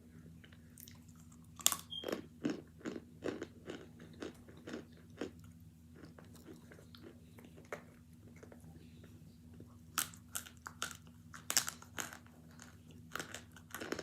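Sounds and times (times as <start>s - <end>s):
chewing crunches: 0.4s - 8.6s, 9.5s - 14.0s.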